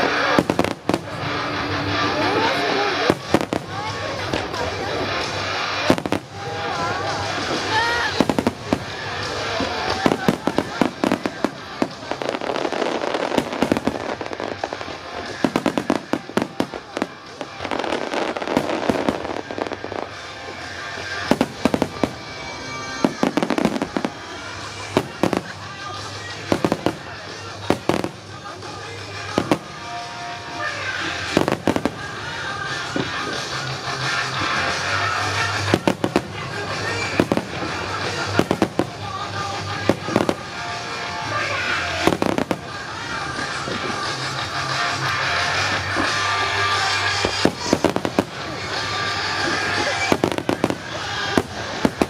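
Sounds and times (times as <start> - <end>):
fireworks bursts and crackling: 0.0 - 52.0
music playing: 0.0 - 52.0.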